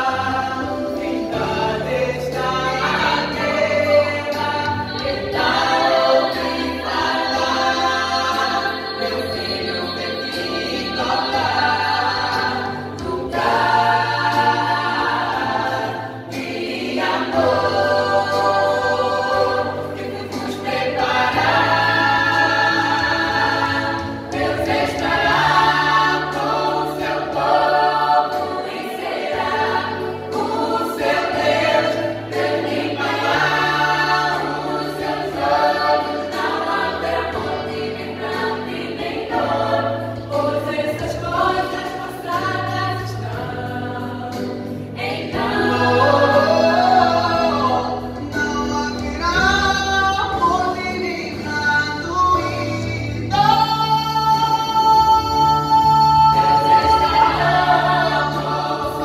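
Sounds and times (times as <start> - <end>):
choir singing gospel in harmony: 0.0 - 59.0.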